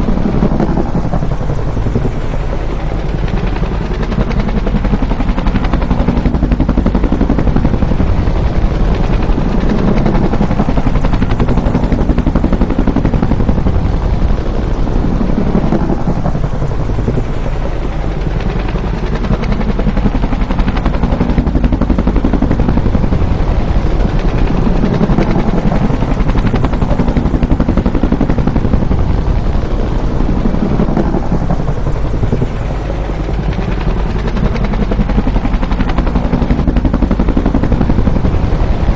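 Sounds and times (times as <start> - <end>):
helicopter rotor beating: 0.0 - 38.9
turbine noise: 0.0 - 38.9.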